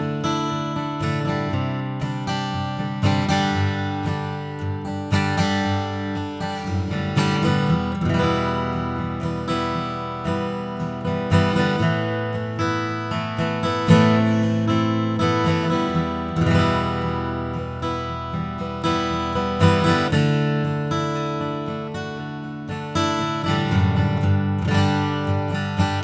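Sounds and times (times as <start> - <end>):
acoustic guitar strummed chords: 0.0 - 26.0.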